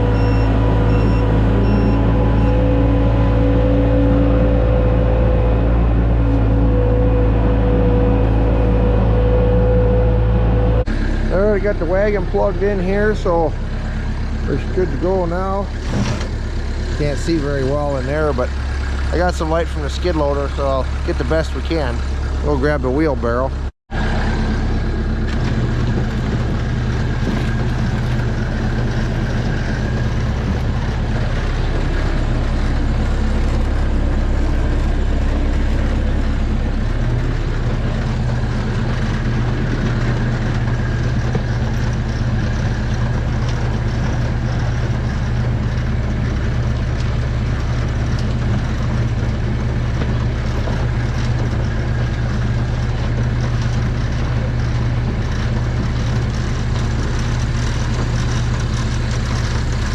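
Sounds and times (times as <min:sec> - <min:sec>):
farm machinery drone: 0:00.0 - 0:59.9.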